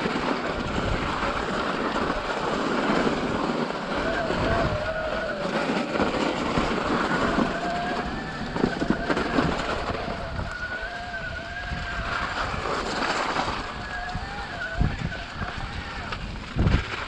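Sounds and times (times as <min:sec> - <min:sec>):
thin wavering whine: 0:00.0 - 0:16.3
wind on microphone: 0:00.0 - 0:17.0.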